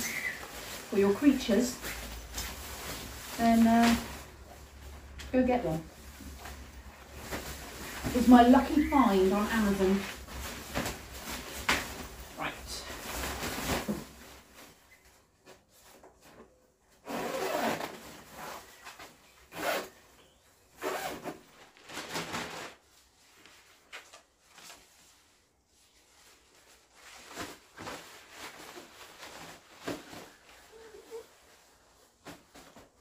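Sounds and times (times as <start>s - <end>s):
mesh fabric rustling: 0.0s - 33.0s.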